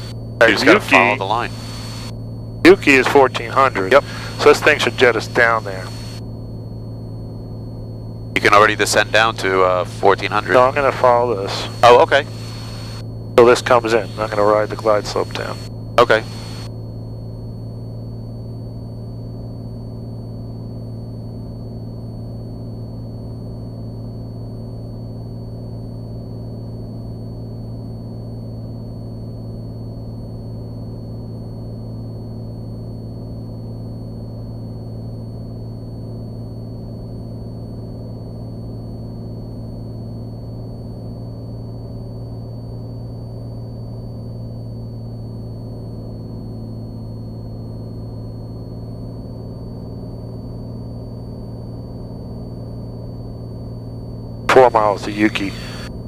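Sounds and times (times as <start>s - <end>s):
faint high whine: 0.0s - 56.0s
piston engine and propeller droning: 0.0s - 56.0s.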